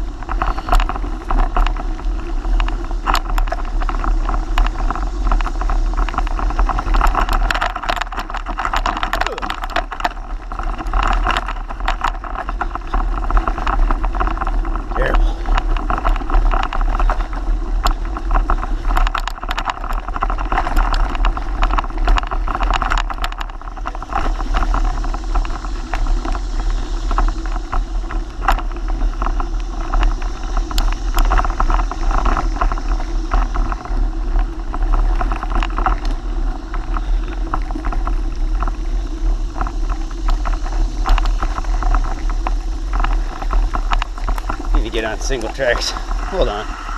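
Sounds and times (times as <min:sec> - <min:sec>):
bike clicks and rattles: 0:00.0 - 0:46.9
bike tyre noise: 0:00.0 - 0:46.9
wind rumble on microphone: 0:00.0 - 0:46.9.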